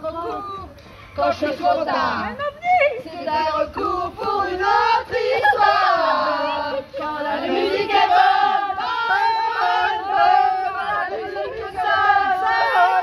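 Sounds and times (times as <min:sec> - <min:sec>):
group of people singing: 0:01.2 - 0:13.0.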